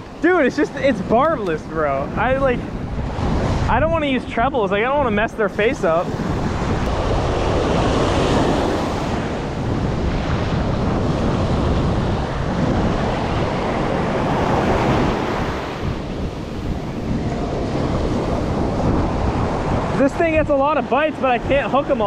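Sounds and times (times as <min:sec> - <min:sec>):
surf breaking on sand: 0:00.0 - 0:22.0
wind buffeting microphone: 0:00.0 - 0:22.0.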